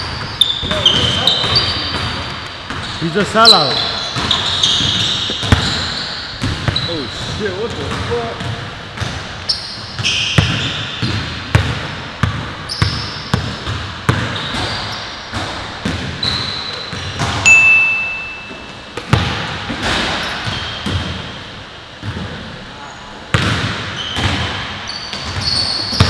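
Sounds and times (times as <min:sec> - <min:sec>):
sneaker squeaks: 0:00.0 - 0:11.4, 0:12.6 - 0:19.2, 0:19.8 - 0:21.3, 0:22.8 - 0:26.0
basketballs bouncing in gym: 0:00.0 - 0:26.0.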